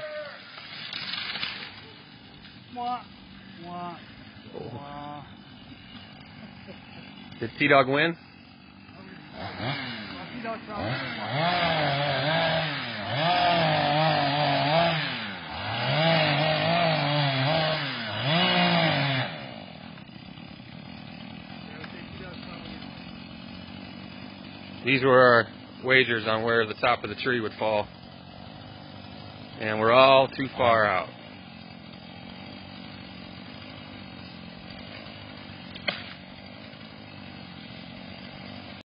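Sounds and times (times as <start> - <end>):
chainsaw running: 0.0 - 38.8.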